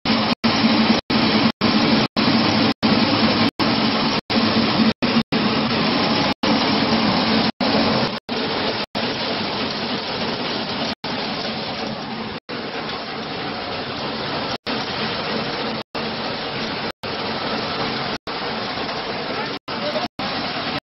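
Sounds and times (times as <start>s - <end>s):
milling machine rushing noise: 0.0s - 20.8s.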